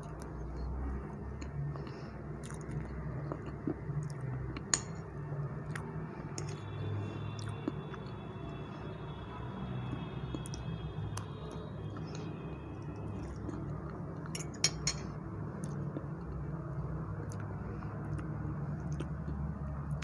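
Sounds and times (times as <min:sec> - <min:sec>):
close chewing of soft cake: 0:00.0 - 0:14.3, 0:15.5 - 0:20.0.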